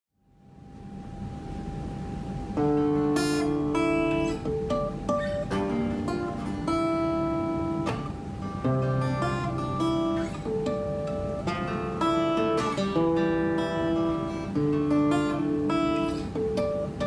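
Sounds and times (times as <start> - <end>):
faint steady hum: 0.2 - 17.0
acoustic guitar playing: 2.4 - 17.0.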